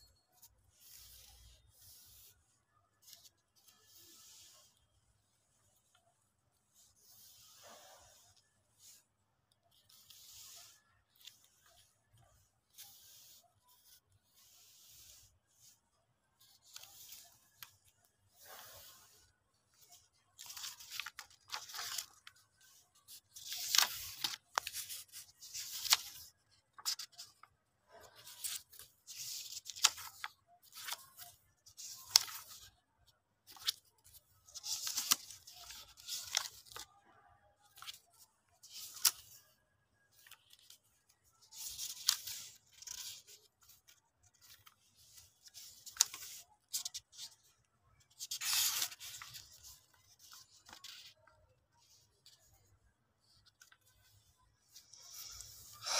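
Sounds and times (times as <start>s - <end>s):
paper pages rustling: 0.3s - 37.0s, 37.6s - 55.9s.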